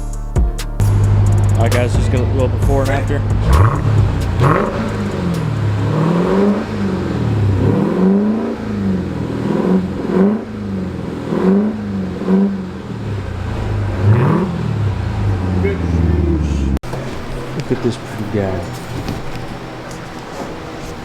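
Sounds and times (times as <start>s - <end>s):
car engine revving: 0.8s - 21.0s.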